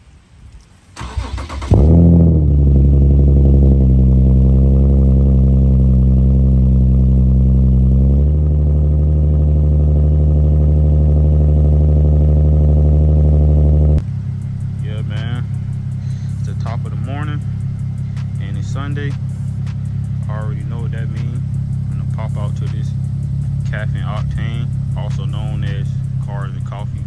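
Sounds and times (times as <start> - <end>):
car engine starting and idling: 0.6 - 27.0.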